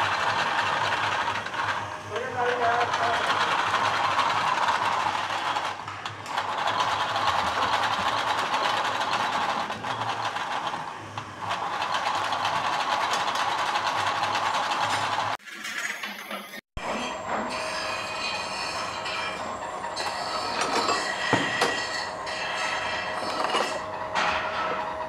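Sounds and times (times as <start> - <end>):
lathe whirring: 0.0 - 15.4, 16.8 - 25.0.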